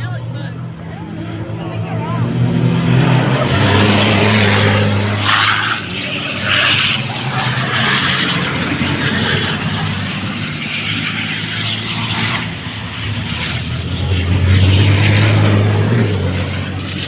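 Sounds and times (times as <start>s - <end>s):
truck engines droning: 0.0s - 17.0s.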